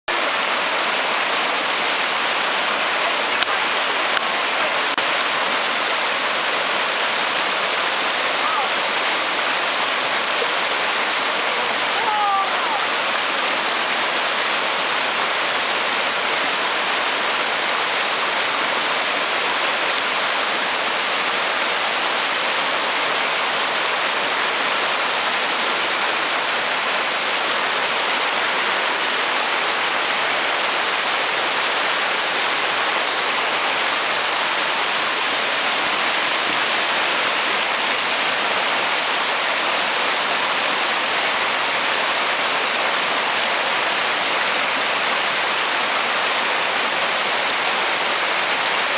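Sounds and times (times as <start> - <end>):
river rushing over rocks: 0.1 - 48.9.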